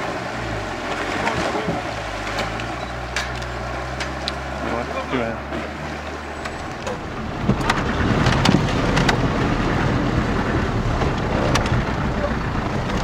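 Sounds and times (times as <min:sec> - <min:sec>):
vehicle engine running low: 0:00.0 - 0:13.0
water rushing and splashing: 0:00.0 - 0:13.0.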